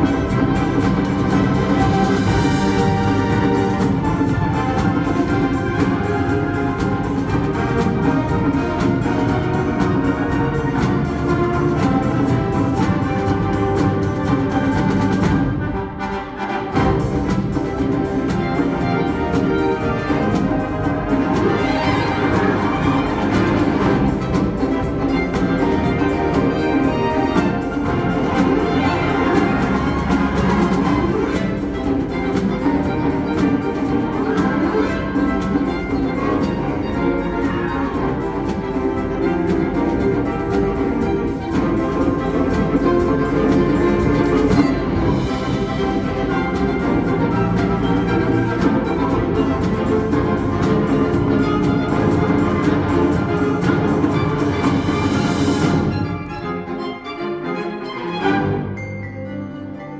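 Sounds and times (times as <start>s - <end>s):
wind band playing chords: 0.0s - 59.9s.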